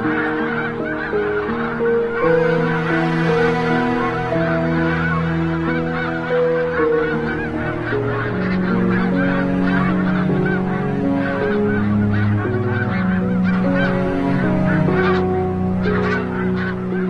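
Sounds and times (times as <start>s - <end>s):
geese honking: 0.0s - 17.0s
soft held music chords: 0.0s - 17.0s.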